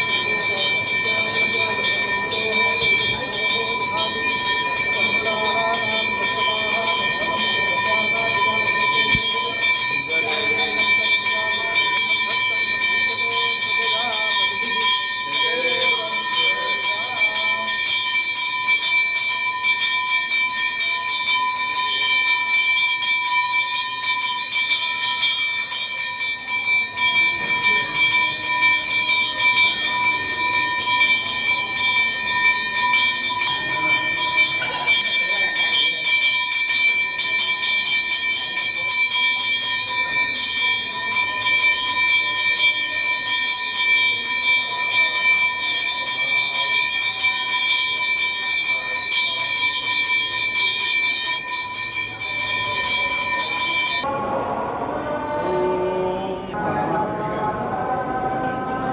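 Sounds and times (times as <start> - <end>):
bell ringing: 0.0 - 56.6, 58.3 - 58.9.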